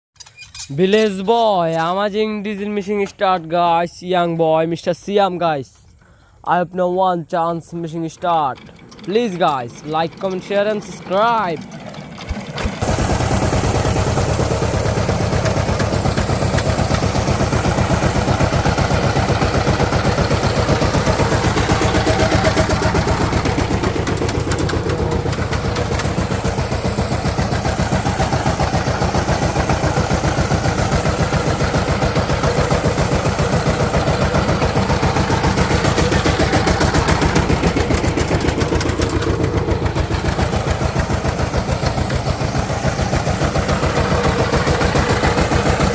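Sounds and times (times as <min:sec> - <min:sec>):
diesel engine starting and idling: 0:05.9 - 0:45.9.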